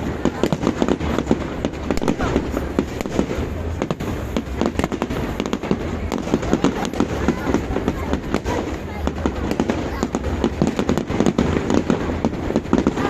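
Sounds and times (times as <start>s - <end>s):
fireworks and firecrackers banging: 0.0s - 13.0s.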